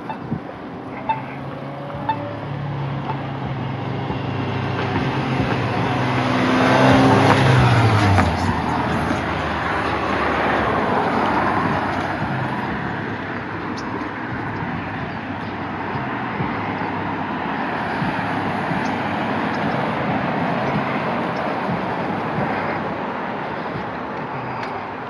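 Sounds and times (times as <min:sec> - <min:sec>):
cars passing on road: 0:00.0 - 0:25.0.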